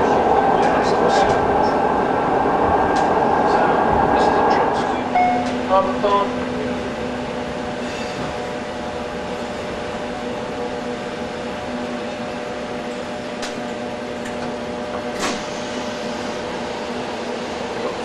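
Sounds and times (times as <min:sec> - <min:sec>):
tram electrical hum: 0:00.0 - 0:18.0.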